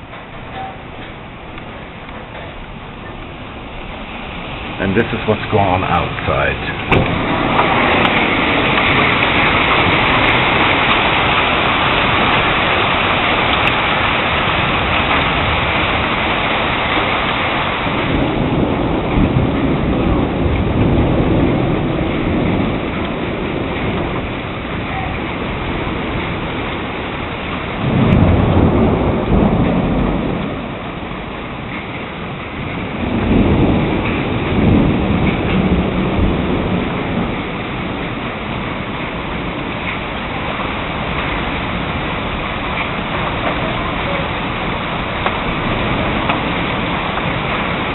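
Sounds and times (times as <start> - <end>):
heavy rain pouring: 0.0 - 47.9
thunder rumbling: 0.0 - 47.9.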